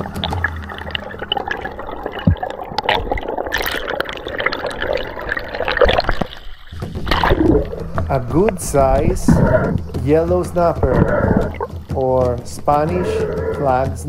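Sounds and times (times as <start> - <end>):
underwater clicks and crackles: 0.0 - 14.0
underwater water wash: 0.0 - 14.0.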